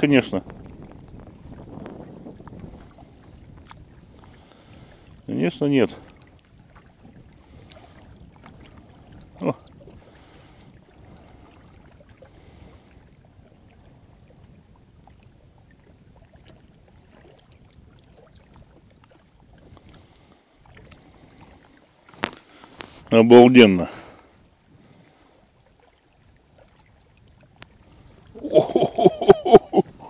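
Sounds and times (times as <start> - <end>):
wind on microphone: 0.0 - 23.2, 23.9 - 30.0
small waves lapping on rocks: 0.0 - 30.0.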